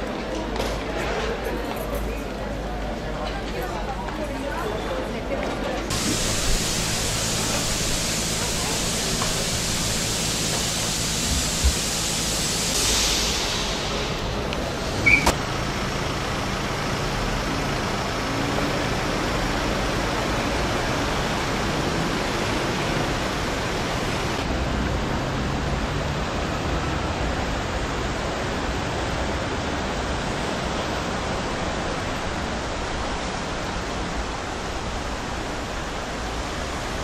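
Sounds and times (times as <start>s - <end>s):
road traffic passing: 5.9s - 37.0s.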